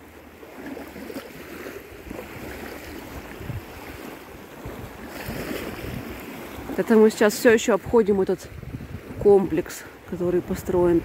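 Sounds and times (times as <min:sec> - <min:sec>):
small waves lapping on shore: 0:00.0 - 0:11.0
wind rumbling on microphone: 0:01.3 - 0:11.0.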